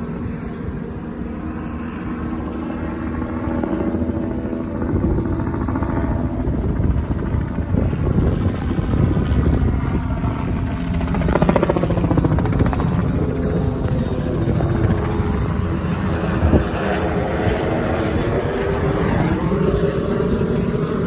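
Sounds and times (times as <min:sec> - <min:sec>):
helicopter rotor chop: 0:00.0 - 0:21.0.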